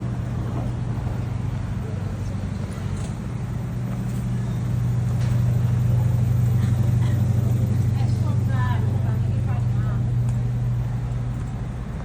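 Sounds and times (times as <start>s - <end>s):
electric tram motor hum: 0.0s - 12.0s.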